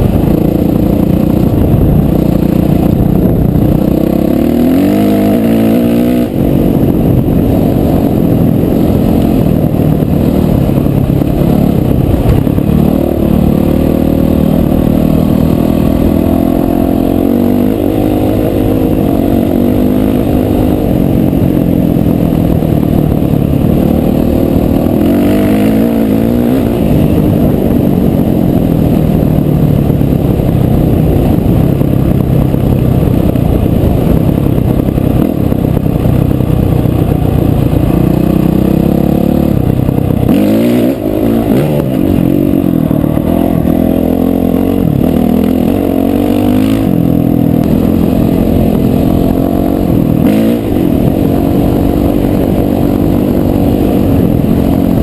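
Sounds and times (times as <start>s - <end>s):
dirt bike engine revving: 0.0s - 36.0s, 37.0s - 55.0s.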